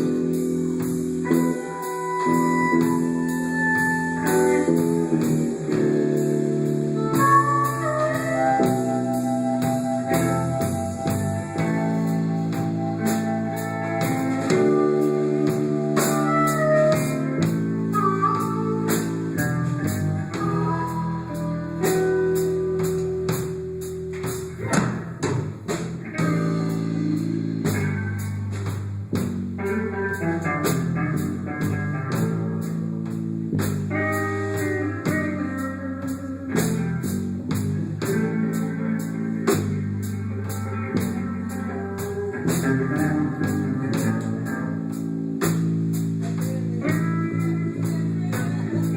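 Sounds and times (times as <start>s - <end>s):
instrumental band music: 0.0s - 48.9s.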